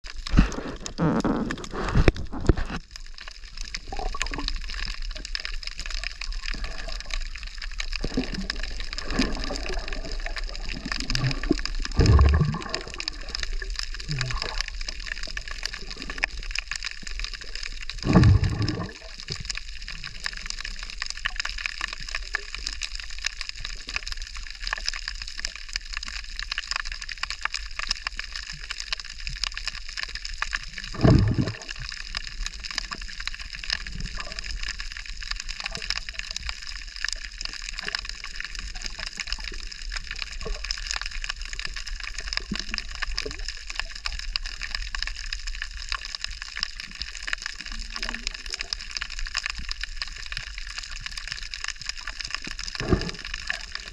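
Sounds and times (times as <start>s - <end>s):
water hissing and sloshing: 0.1s - 53.9s.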